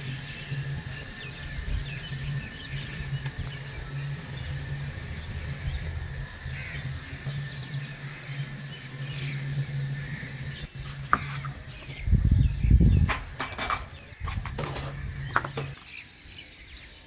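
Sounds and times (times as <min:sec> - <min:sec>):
heavy low handling thumps: 0:00.0 - 0:15.8
steady low hum: 0:00.0 - 0:15.8.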